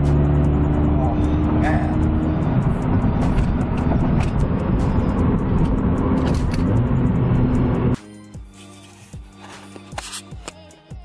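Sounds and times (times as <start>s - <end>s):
car engine and road noise: 0.0s - 10.7s
quiet music: 0.0s - 11.0s.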